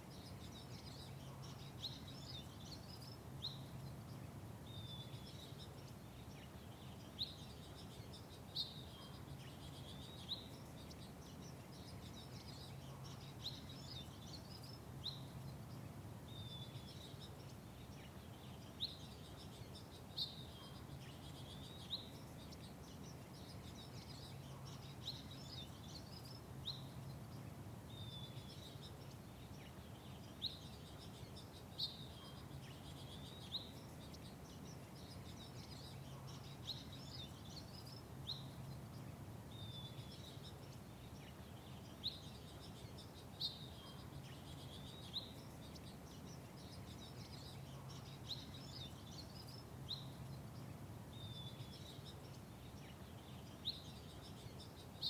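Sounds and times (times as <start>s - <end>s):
faint low hum: 0.0s - 55.0s
small songbirds chirping: 0.0s - 55.0s.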